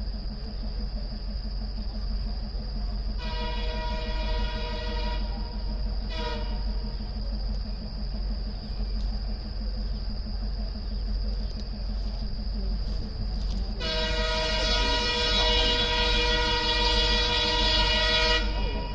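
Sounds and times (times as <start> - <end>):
train rumble: 0.0 - 18.9.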